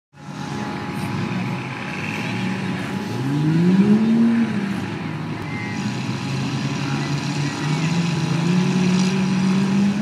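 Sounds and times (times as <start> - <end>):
truck engine revving: 0.2 - 10.0.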